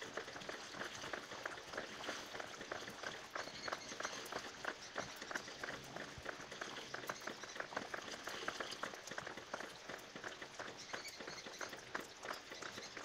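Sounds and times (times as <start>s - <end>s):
water dripping and pattering: 0.0s - 13.0s.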